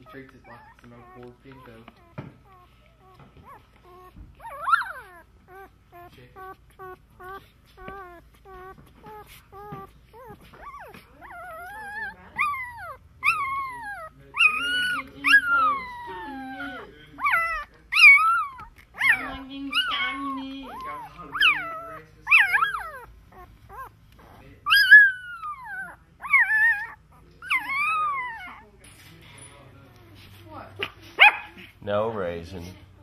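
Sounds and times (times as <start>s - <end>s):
puppies whimpering and crying: 0.0s - 28.8s.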